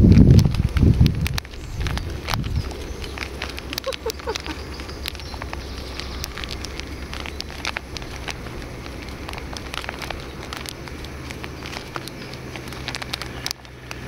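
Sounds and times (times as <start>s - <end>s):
rice sizzling in a frying pan: 0.0s - 14.0s.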